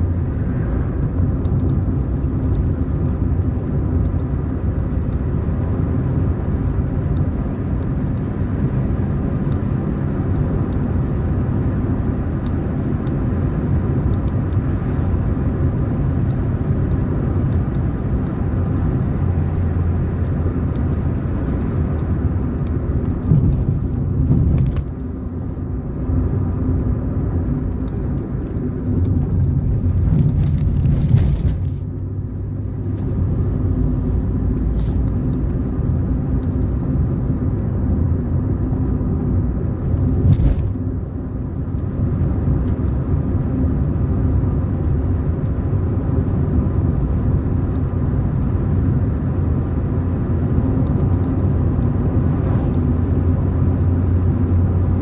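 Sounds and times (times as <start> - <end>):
car engine rumble: 0.0 - 55.0
tyres on road: 0.0 - 55.0.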